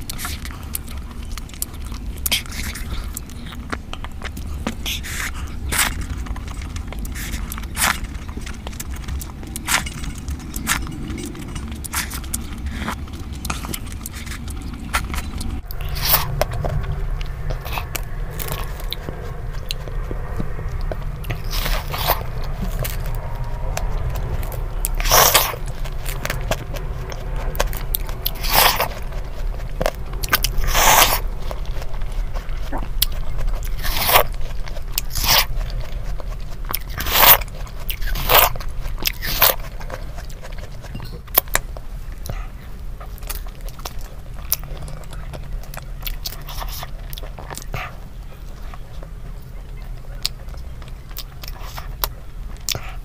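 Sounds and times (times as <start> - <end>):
chewing watermelon: 0.0 - 53.0.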